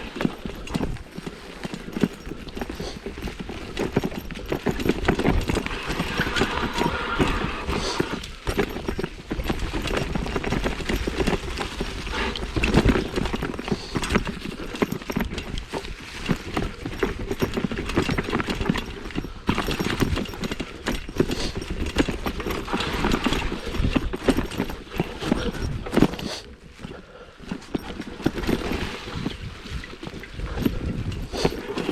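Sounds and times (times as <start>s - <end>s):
mountain bike rattling over dirt: 0.0s - 31.9s.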